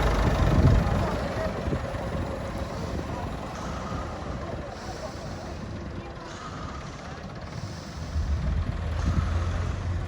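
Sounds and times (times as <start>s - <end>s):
tractor engines rumbling: 0.0s - 10.0s.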